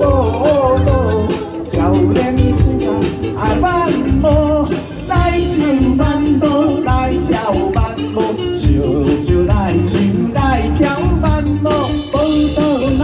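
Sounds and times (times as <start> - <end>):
live pop band playing: 0.0 - 13.0.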